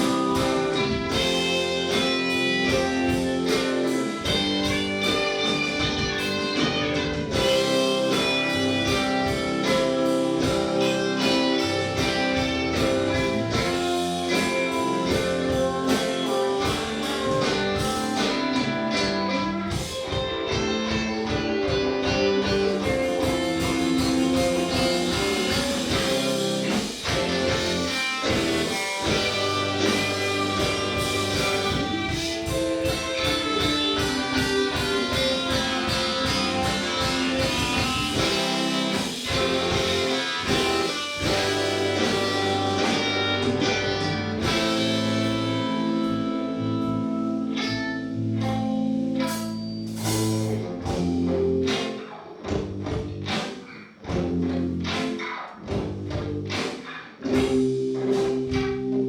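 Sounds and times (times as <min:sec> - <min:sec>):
guitars: 0:00.0 - 0:59.0
live band playing: 0:00.0 - 0:59.0.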